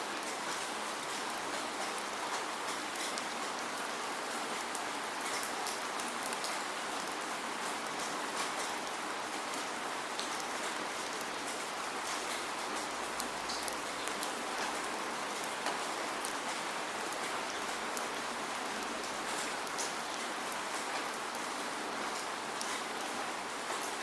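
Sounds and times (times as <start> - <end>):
steady rain pattering: 0.0 - 24.0.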